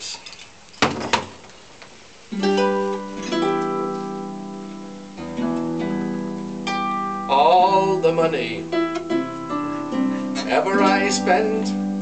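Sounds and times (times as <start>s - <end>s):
harp plucked: 2.3s - 12.0s.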